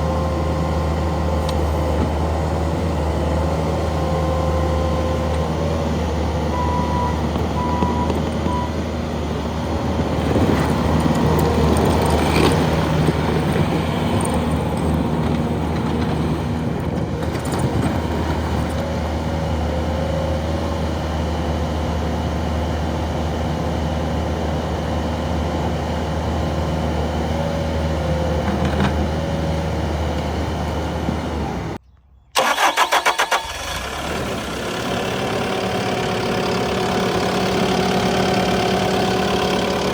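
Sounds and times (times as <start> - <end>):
diesel engine running: 0.0 - 31.8, 32.4 - 39.9.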